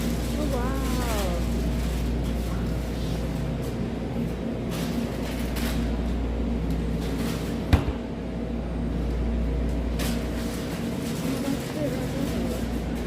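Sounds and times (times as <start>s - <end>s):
refrigeration hum: 0.0s - 13.0s.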